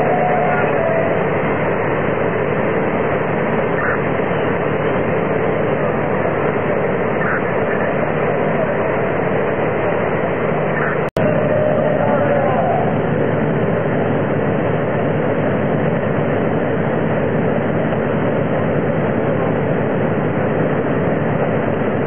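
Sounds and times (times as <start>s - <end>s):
fire engines droning: 0.0s - 22.0s.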